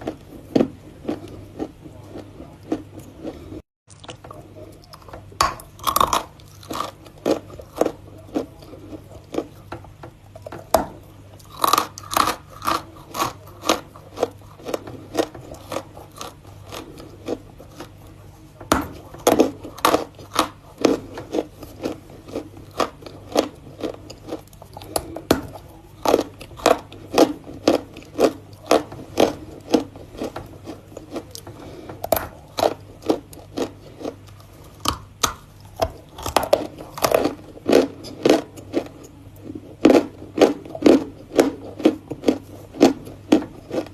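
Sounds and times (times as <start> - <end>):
faint low hum: 0.0 - 43.9
person crunching and chewing: 0.0 - 43.9.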